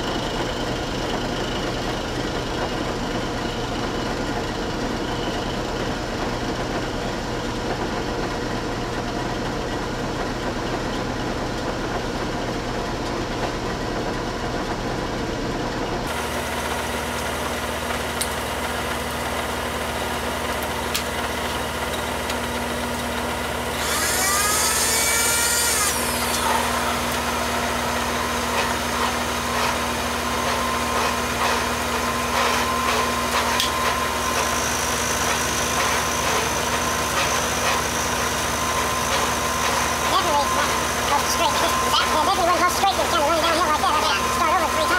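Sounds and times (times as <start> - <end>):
milling machine motor humming: 0.0 - 44.9.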